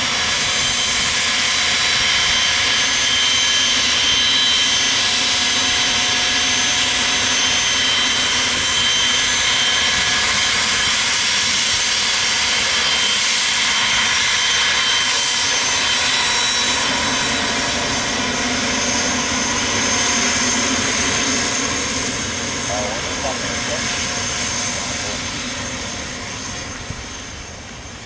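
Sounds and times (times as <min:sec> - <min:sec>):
jet engines roaring with whine: 0:00.0 - 0:28.0.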